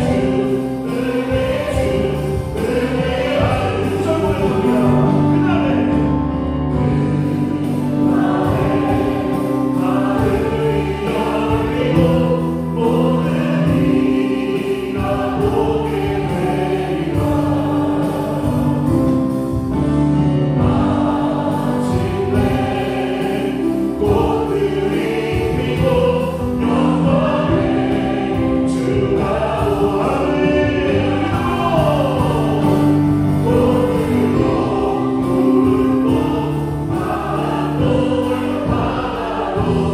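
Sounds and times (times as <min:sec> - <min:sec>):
bass guitar: 0:00.0 - 0:39.9
choir singing a hymn: 0:00.0 - 0:39.9
keyboard: 0:00.0 - 0:39.9.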